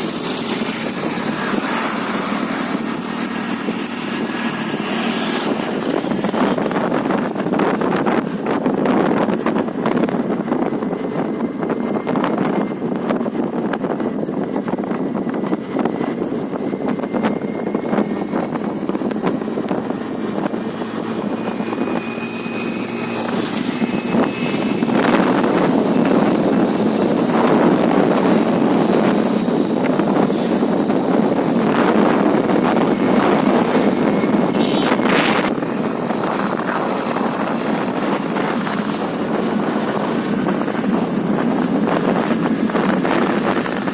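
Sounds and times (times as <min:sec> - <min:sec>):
scooter engine: 0:00.0 - 0:43.9.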